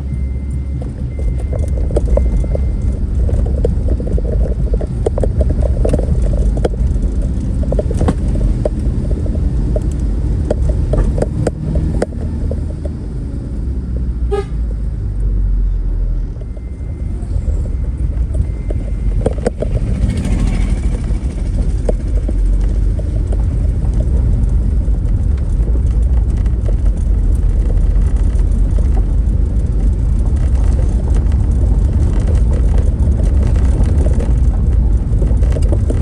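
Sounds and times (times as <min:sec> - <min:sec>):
motor vehicle rumble: 0:00.0 - 0:36.0
knocks and rattles: 0:00.4 - 0:13.0, 0:17.6 - 0:36.0.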